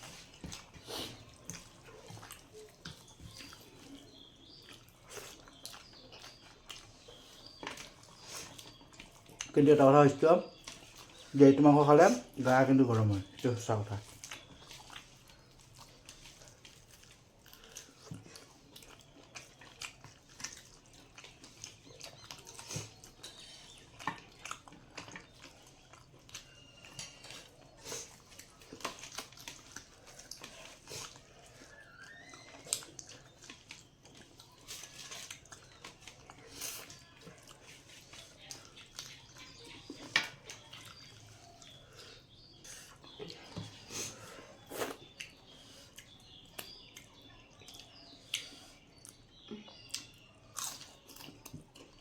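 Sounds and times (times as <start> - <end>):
person chewing and mouth smacking: 0.0 - 52.0.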